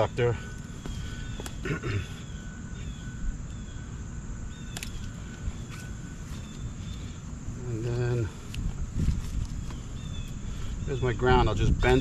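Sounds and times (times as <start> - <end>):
faint bird chirps: 0.0 - 12.0
steady low rumble: 0.0 - 12.0.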